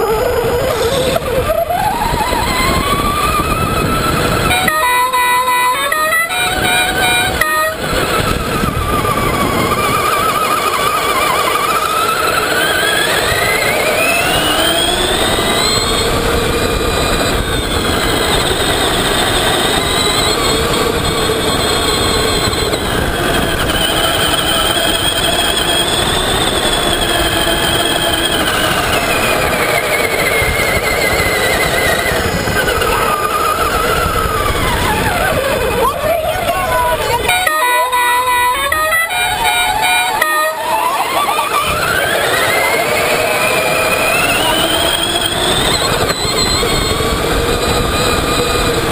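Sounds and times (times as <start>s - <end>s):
steady rush of noise: 0.0s - 48.9s
toy truck motor whining: 0.0s - 48.9s.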